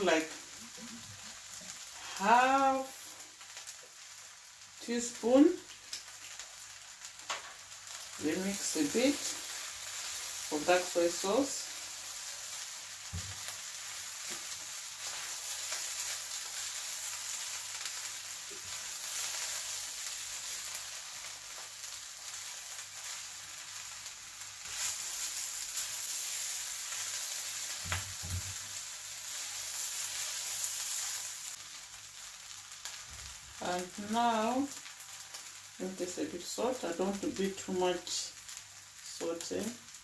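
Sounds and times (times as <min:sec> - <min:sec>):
fried rice sizzling in a pan: 0:00.0 - 0:40.0.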